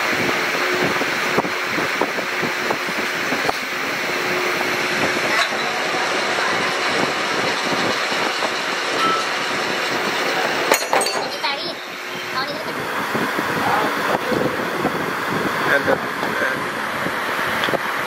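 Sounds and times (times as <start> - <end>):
metal lathe running: 0.0 - 18.0.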